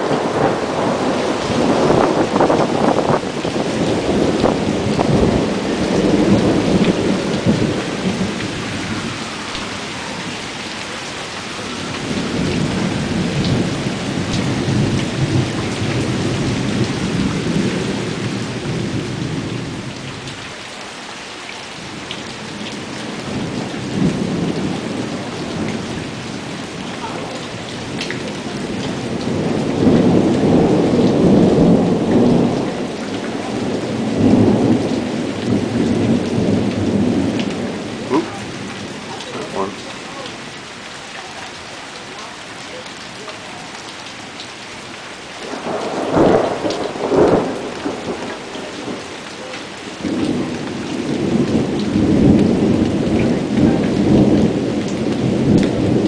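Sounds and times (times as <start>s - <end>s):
thunder rumbling: 0.0s - 10.5s, 11.6s - 20.1s, 22.4s - 39.7s, 45.4s - 49.1s, 49.9s - 56.0s
steady rain: 0.0s - 56.0s.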